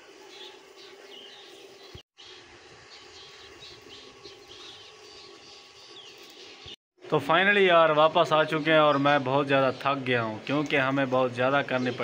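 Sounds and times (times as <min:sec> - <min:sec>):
small birds chirping: 0:00.1 - 0:06.8, 0:08.1 - 0:12.0.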